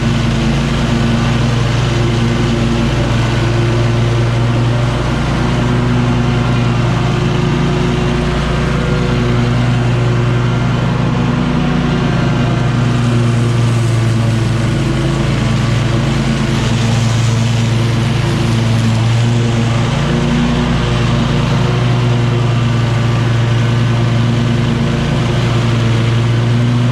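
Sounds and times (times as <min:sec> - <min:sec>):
mower engine running: 0:00.0 - 0:26.9.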